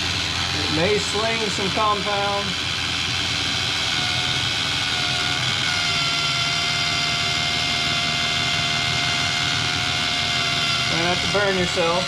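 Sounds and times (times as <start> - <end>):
polisher motor whine: 0.0 - 12.0.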